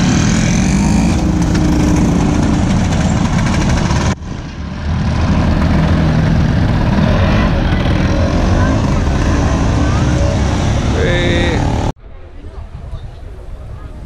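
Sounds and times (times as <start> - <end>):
motor scooters riding past: 0.0 - 12.0.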